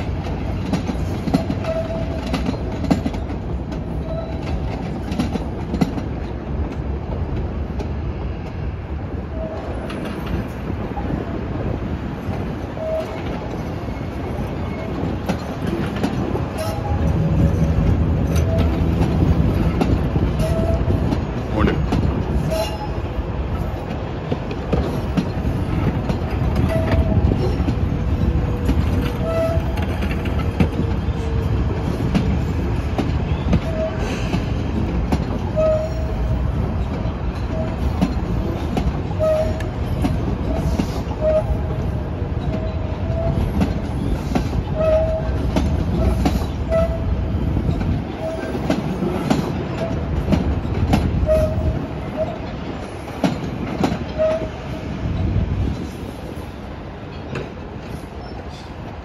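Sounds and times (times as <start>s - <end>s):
train rumbling and clattering: 0.0s - 59.0s
high wheel squeaks: 0.5s - 5.3s, 12.7s - 23.8s, 24.8s - 34.6s, 35.3s - 58.8s.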